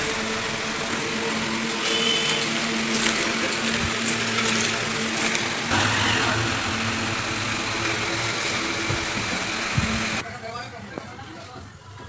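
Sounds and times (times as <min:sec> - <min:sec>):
electric fan running: 0:00.0 - 0:10.2.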